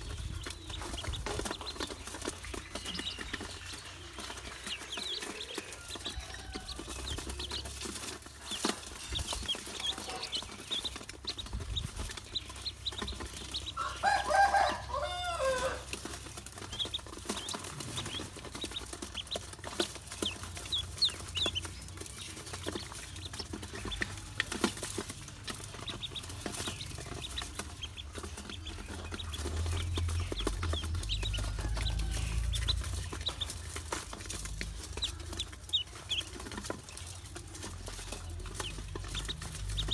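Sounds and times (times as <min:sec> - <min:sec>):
bills pecking on metal basin: 0:00.0 - 0:39.9
ducklings peeping: 0:00.0 - 0:39.9.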